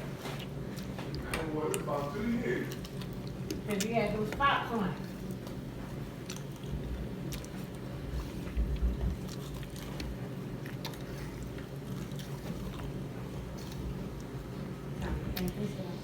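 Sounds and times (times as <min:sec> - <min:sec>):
person chewing crunchy food: 0:00.0 - 0:04.4, 0:05.0 - 0:15.6.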